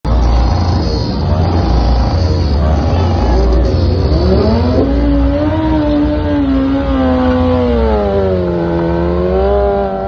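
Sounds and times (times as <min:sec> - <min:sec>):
motorcycle engine revving: 0:00.1 - 0:10.0.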